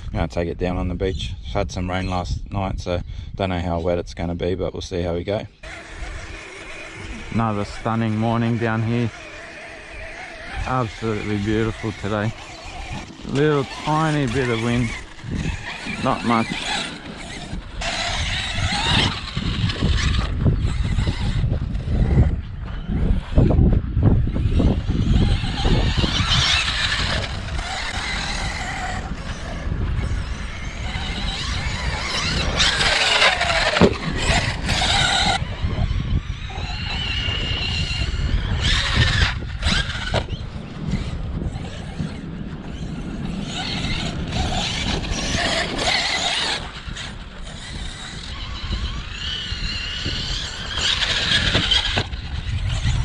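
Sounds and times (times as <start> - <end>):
wind rumbling on microphone: 0.0 - 53.0
rc truck motor whining: 5.5 - 53.0.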